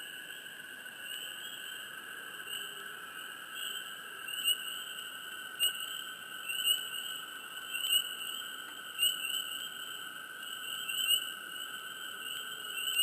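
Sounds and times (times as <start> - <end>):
frogs chirping in a chorus: 0.0 - 13.0.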